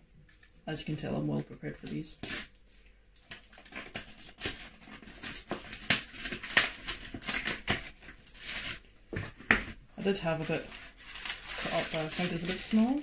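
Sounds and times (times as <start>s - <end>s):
baking paper crinkling: 0.3s - 13.0s.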